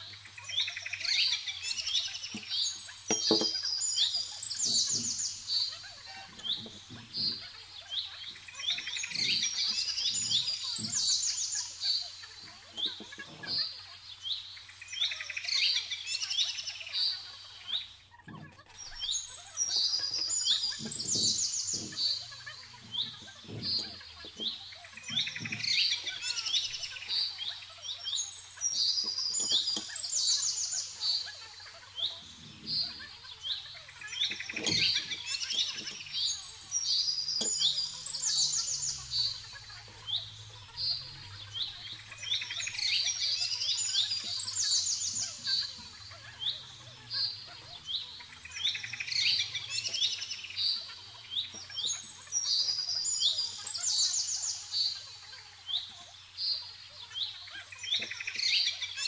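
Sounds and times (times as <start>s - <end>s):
small bird chirping and trilling: 0.0s - 59.0s.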